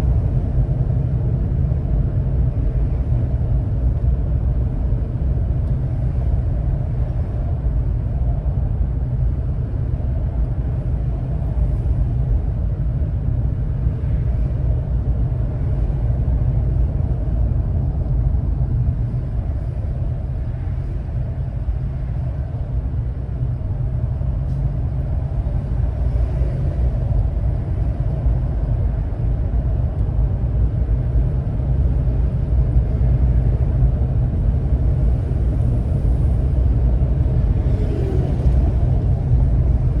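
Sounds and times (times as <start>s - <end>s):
car driving rumble: 0.0s - 40.0s.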